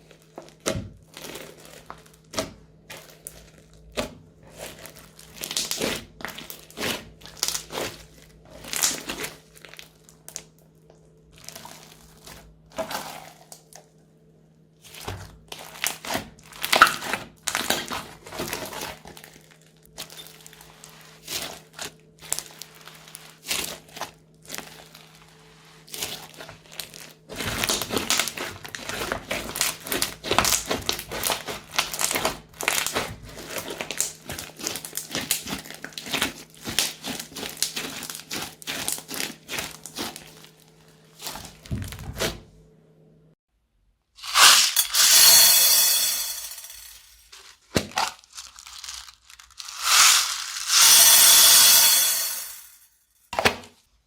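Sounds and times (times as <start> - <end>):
crunchy slime crackling: 0.0 - 13.8, 14.8 - 42.3, 47.3 - 50.9.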